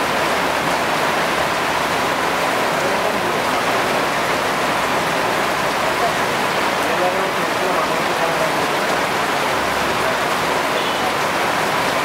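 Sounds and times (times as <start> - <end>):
heavy rain on a street: 0.0 - 12.0.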